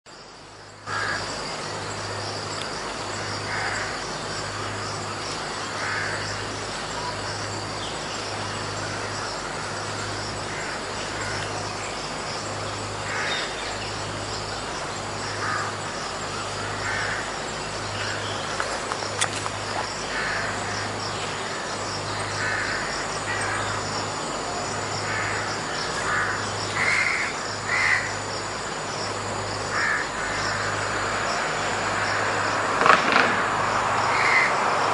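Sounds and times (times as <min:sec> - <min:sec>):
high insect drone: 0:00.1 - 0:34.9.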